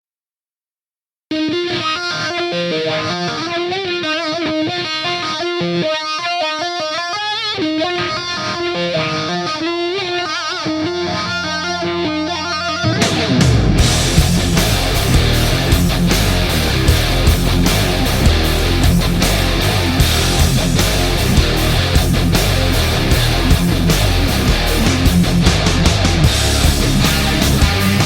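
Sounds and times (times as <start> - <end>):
distorted electric guitar lead: 1.3 - 28.0.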